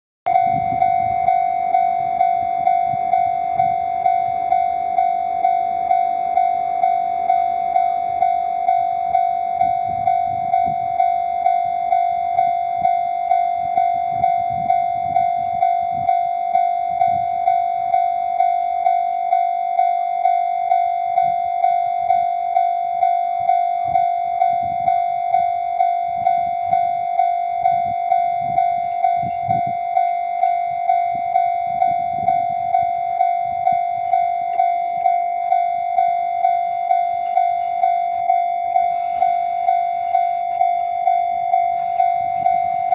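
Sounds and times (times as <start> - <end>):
level crossing warning bell: 0.3 - 42.9.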